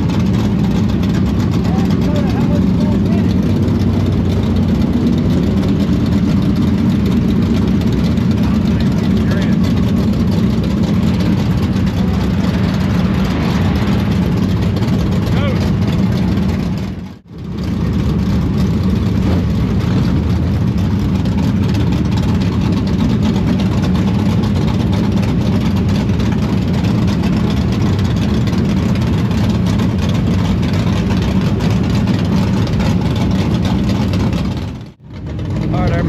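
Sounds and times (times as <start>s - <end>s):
race car engine running: 0.0s - 36.0s.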